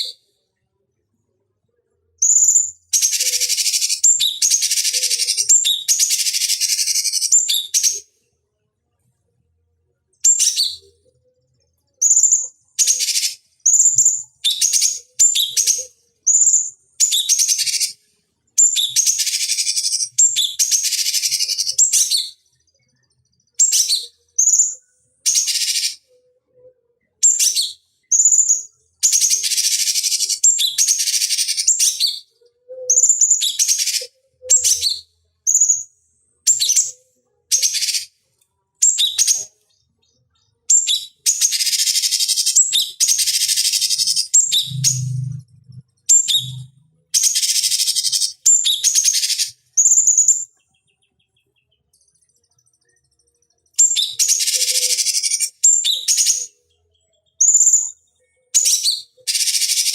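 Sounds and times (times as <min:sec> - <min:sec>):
bird singing: 0:01.9 - 0:08.4, 0:10.2 - 0:59.9.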